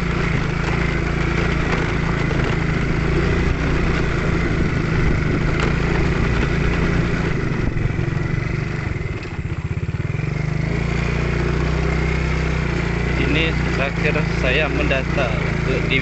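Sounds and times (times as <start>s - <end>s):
small motorcycle engine: 0.0s - 16.0s.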